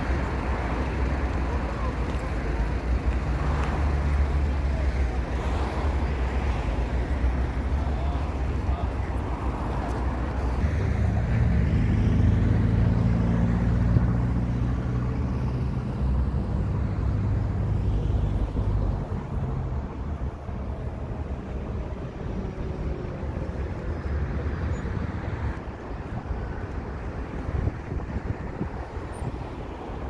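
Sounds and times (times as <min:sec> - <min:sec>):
city noise: 0:00.0 - 0:30.0
large engine humming: 0:00.0 - 0:30.0.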